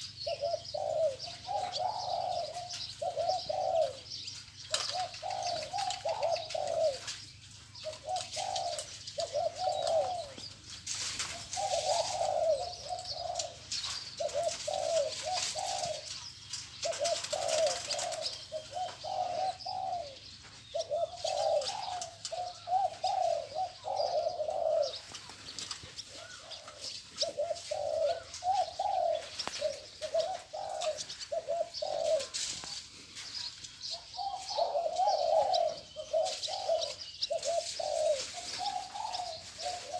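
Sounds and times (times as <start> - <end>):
birds chirping: 0.0 - 39.9
dove cooing: 0.0 - 39.9.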